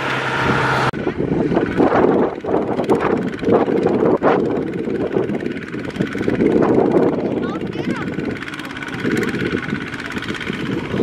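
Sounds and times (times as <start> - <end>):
diesel tiller engine chugging: 0.0 - 11.0.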